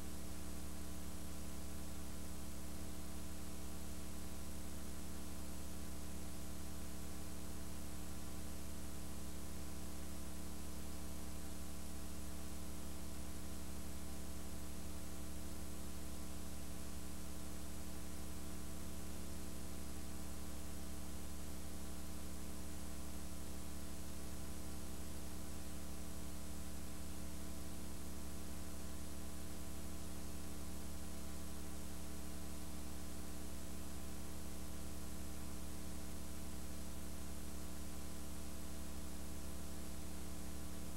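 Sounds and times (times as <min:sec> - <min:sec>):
buzzy electrical mains hum: 0:00.0 - 0:40.9.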